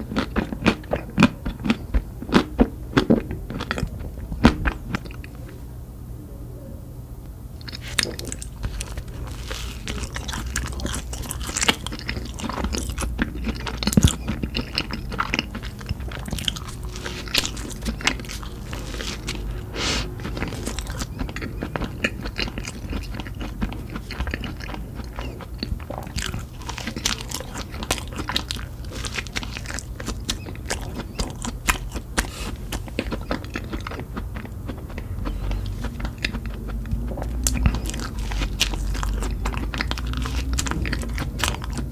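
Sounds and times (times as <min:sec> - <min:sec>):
person chewing crunchy food: 0:00.0 - 0:05.4, 0:07.6 - 0:41.9
steady low hum: 0:00.0 - 0:41.9.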